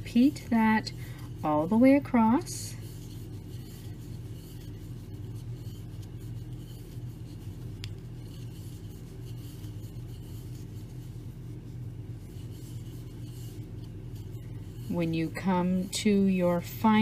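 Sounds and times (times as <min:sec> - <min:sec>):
steady low hum: 0:00.0 - 0:17.0
yarn scratching through stitches: 0:00.0 - 0:17.0.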